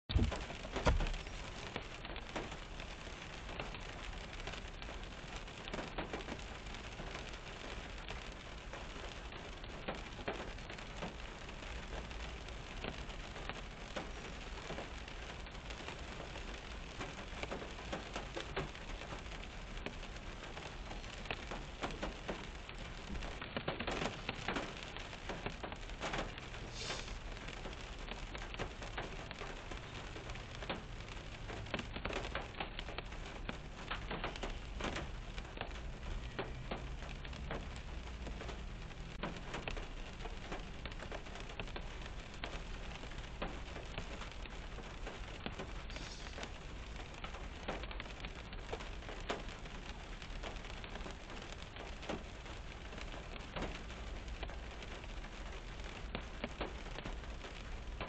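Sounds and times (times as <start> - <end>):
rain on car roof: 0.0 - 58.0.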